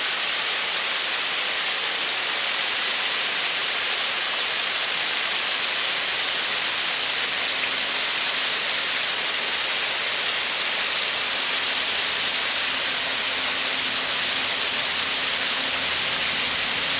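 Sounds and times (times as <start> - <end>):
waterfall rushing over rocks: 0.0 - 16.9.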